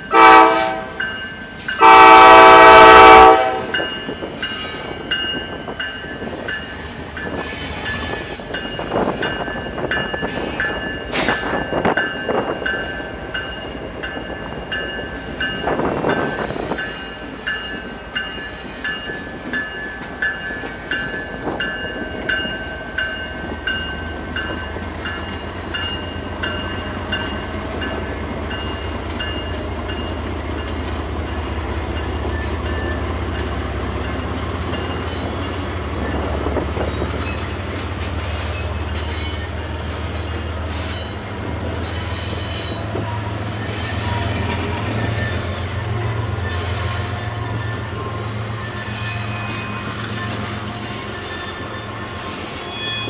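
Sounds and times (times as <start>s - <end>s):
diesel locomotive engines droning: 0.0s - 53.0s
locomotive bell ringing: 0.0s - 53.0s.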